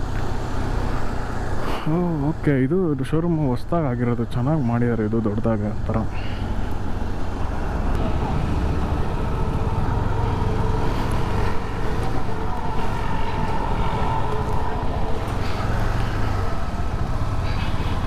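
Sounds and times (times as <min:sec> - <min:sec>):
road and traffic noise: 0:00.0 - 0:18.0
vehicle engine running: 0:00.0 - 0:18.0.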